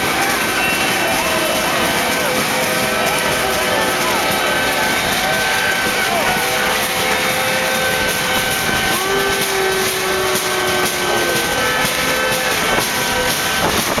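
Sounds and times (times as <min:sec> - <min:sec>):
long blown tones: 0:00.0 - 0:14.0
protest crowd noise: 0:00.0 - 0:14.0.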